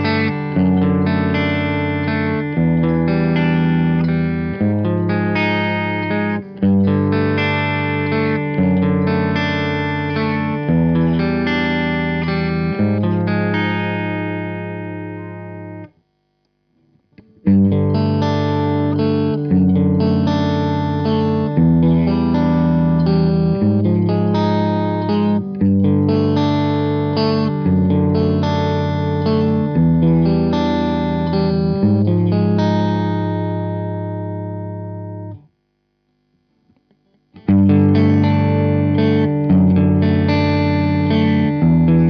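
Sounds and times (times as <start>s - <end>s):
electric guitar chords: 0.0s - 42.0s.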